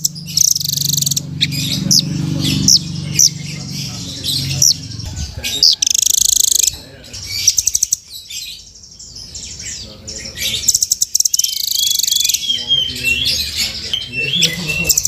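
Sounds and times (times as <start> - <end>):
bird singing fast rattling trills: 0.0 - 15.0.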